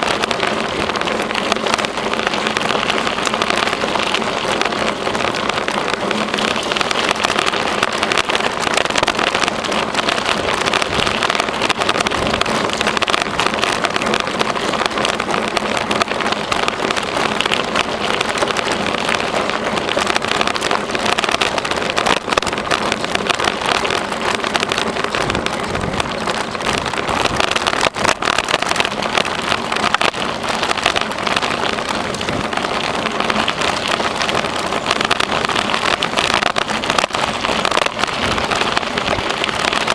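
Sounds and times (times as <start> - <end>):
bicycle clicks and rattles: 0.0 - 39.9
bicycle tyres rolling on trail: 0.0 - 39.9.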